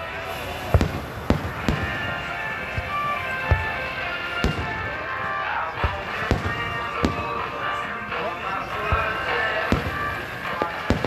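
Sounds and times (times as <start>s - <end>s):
firework shells booming: 0.0s - 11.0s
music playing: 0.0s - 11.0s.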